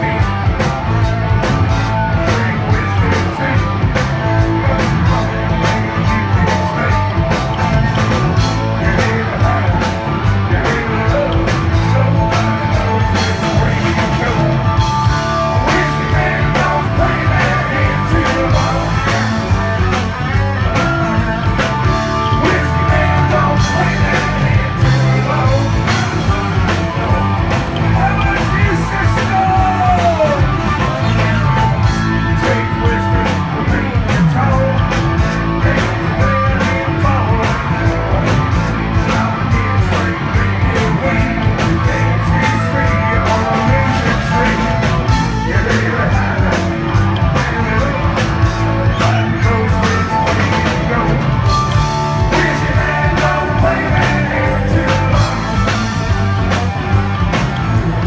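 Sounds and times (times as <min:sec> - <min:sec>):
man singing: 0:00.0 - 0:56.4
live rock band playing: 0:00.0 - 0:58.0.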